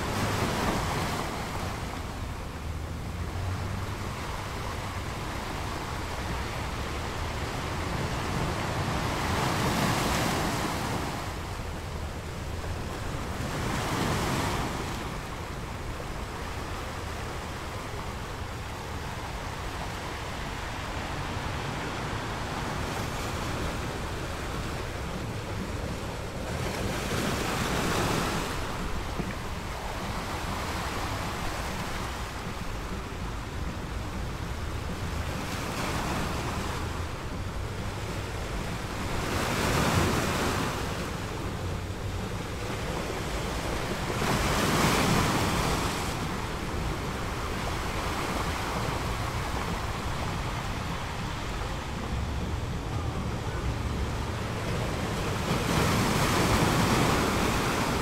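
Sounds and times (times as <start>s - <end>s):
sea waves crashing against rocks: 0.0s - 58.0s.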